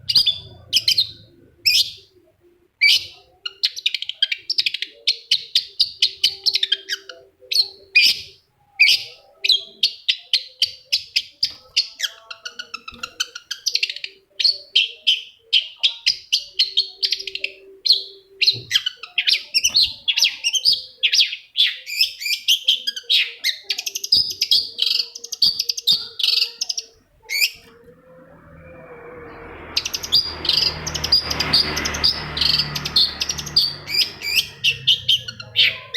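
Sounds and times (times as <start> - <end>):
bird singing fast chatter: 2.8 - 27.7, 29.3 - 35.9.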